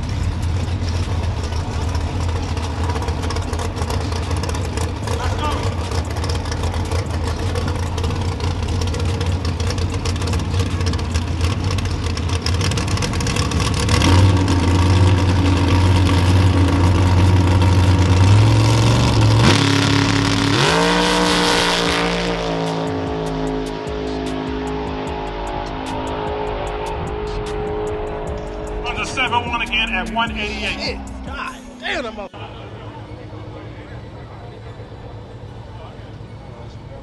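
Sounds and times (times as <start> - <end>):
dragster engine running: 0.0 - 37.0.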